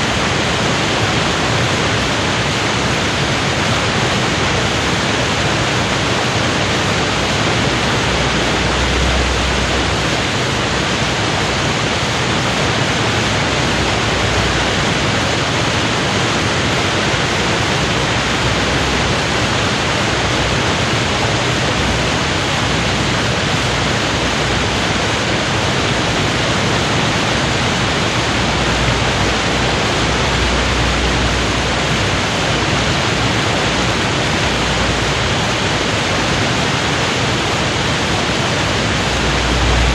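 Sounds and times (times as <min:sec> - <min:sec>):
river water pouring over weir: 0:00.0 - 0:39.9.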